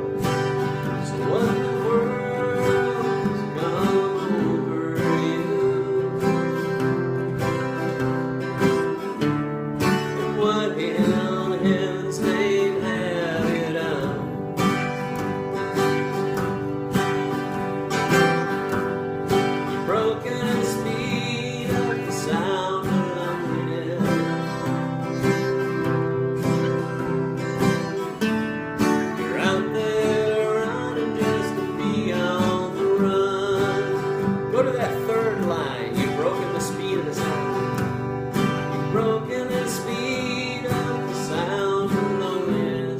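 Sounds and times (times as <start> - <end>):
country acoustic guitar music: 0.0 - 42.9.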